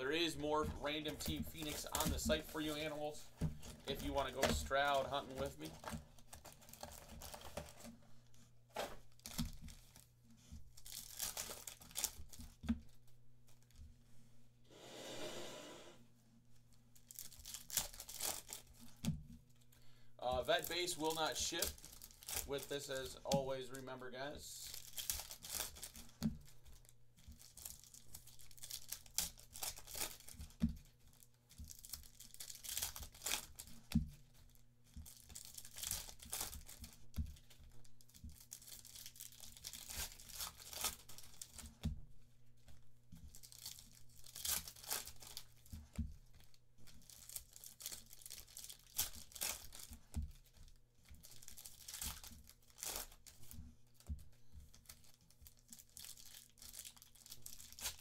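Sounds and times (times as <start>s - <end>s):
foil wrappers crinkling: 0.0s - 13.8s, 16.9s - 58.0s.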